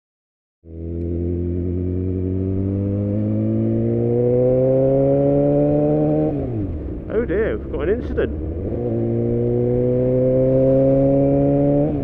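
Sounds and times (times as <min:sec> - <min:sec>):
motorcycle engine rising in pitch: 0:00.6 - 0:12.0.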